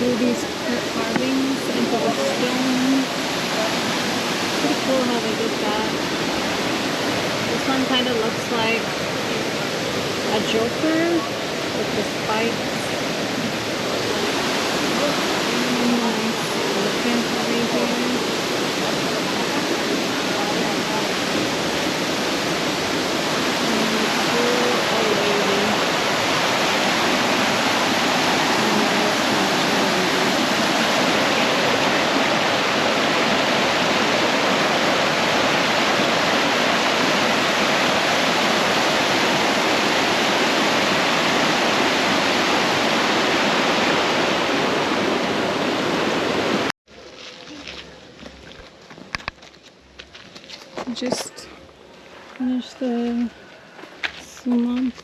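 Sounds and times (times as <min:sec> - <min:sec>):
waterfall roaring: 0:00.0 - 0:46.7.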